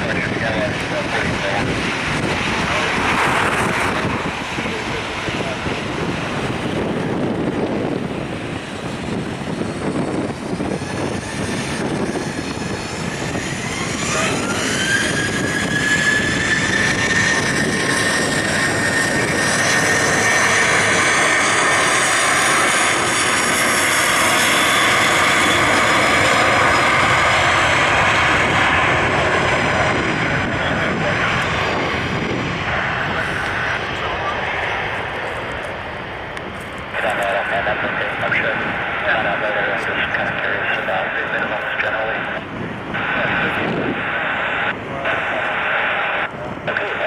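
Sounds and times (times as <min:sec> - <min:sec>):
jet engine whine: 0:00.0 - 0:47.0
jet noise: 0:00.0 - 0:47.0.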